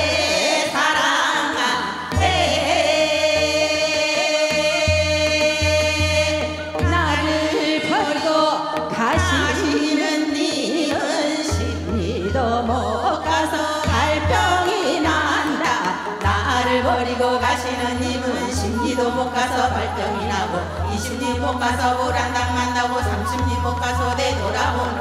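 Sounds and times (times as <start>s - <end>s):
woman singing folk melody: 0.0s - 25.0s
instrumental accompaniment: 1.9s - 25.0s.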